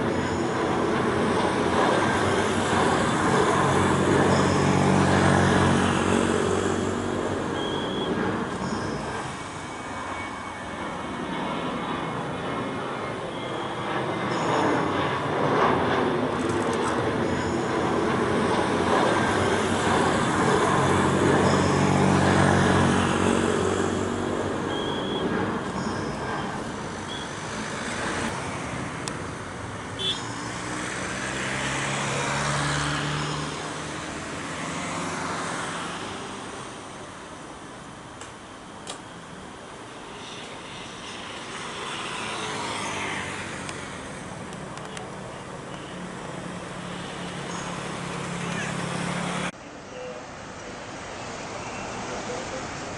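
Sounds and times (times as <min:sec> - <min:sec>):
engine and traffic noise: 0:00.0 - 0:52.9.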